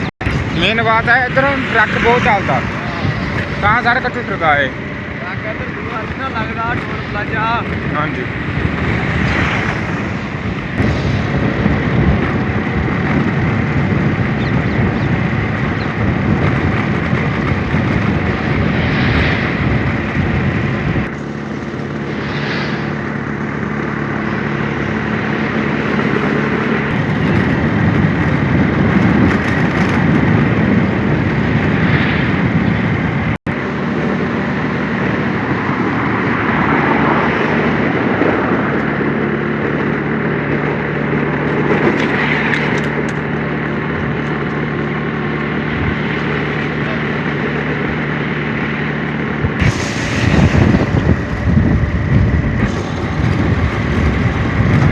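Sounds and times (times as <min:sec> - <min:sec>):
road noise: 0:00.0 - 0:54.9
vehicle engine: 0:00.0 - 0:54.9
wind noise: 0:00.0 - 0:54.9.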